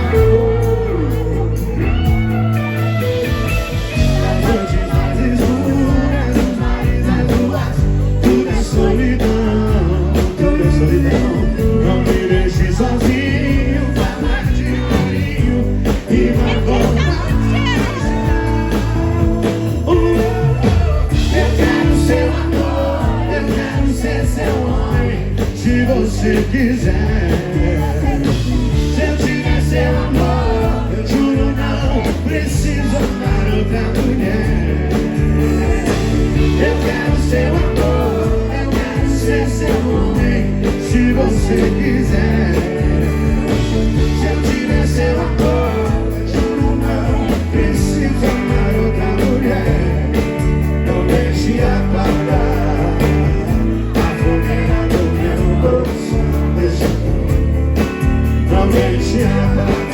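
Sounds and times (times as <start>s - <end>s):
person singing: 0.0s - 2.4s, 3.0s - 57.5s, 58.2s - 59.9s
live band music: 0.0s - 59.9s.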